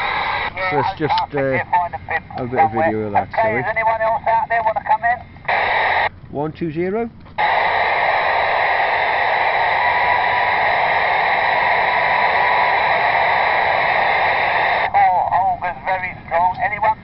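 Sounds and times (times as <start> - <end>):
radio static hiss: 0.0 - 6.1, 7.4 - 17.0
voice over radio: 0.2 - 5.9, 7.4 - 17.0.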